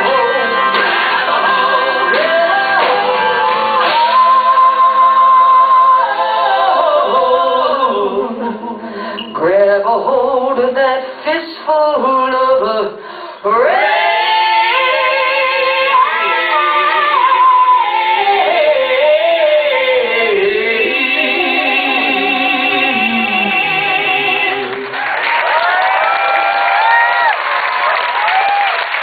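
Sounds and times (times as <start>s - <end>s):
person singing: 0.0s - 24.9s.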